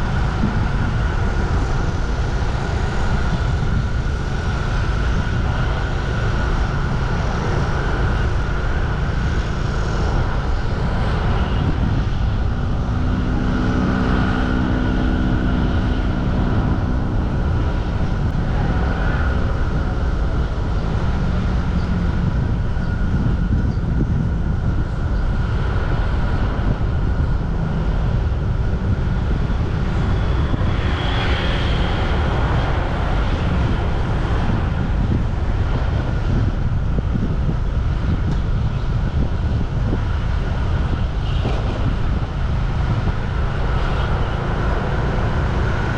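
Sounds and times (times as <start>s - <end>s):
road traffic passing: 0.0s - 45.9s
vehicle engine drone: 0.0s - 45.9s.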